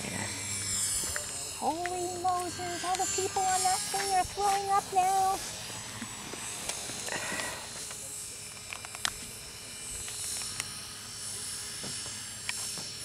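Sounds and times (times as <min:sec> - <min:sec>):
helicopter flying: 0:00.0 - 0:13.0.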